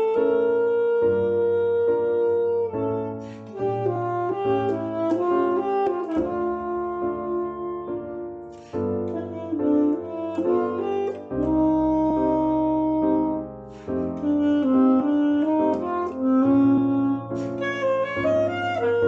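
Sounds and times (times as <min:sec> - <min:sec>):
saxophone melody: 0:00.0 - 0:19.0.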